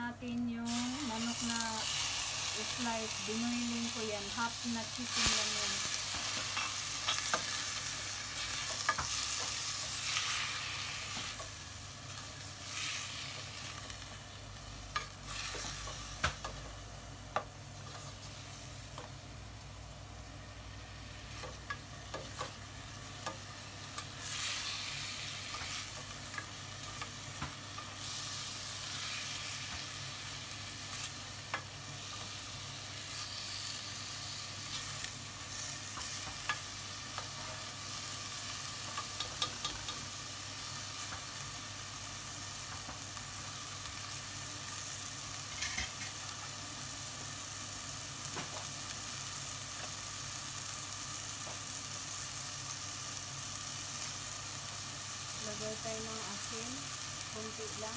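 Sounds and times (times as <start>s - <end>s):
chicken sizzling in oil: 0.5s - 57.9s.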